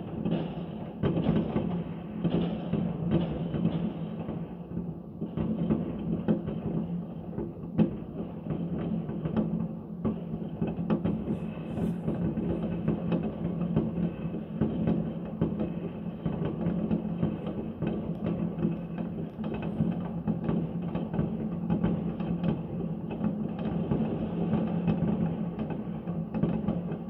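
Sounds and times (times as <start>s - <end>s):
distant fireworks barrage: 0.0s - 27.0s
sharp firework bangs: 0.0s - 27.0s.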